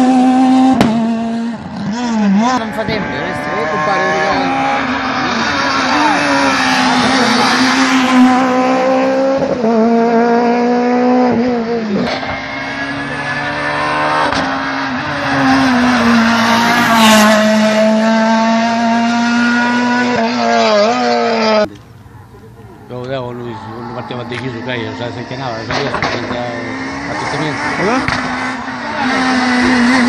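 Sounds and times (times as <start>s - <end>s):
rally car engine at high revs: 0.0s - 21.8s, 23.5s - 30.0s.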